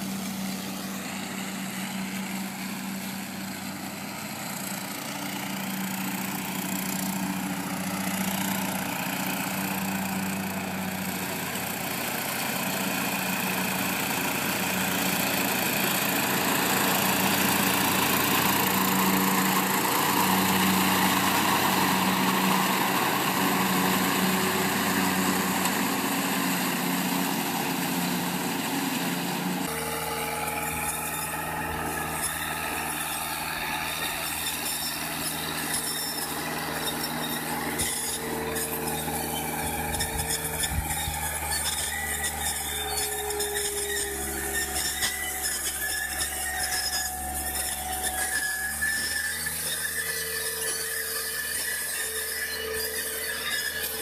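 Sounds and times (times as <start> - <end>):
leaf vacuum rushing noise: 0.0 - 46.3
lawn tractor engine hum: 0.0 - 54.0.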